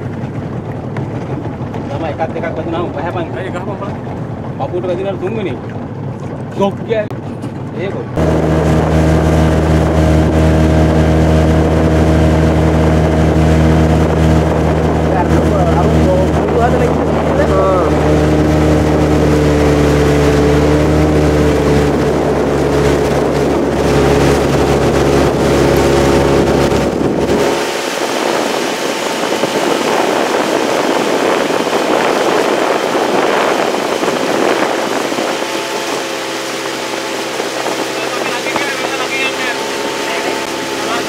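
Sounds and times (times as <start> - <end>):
motorboat engine running: 0.0 - 41.0
wind on microphone: 0.0 - 41.0.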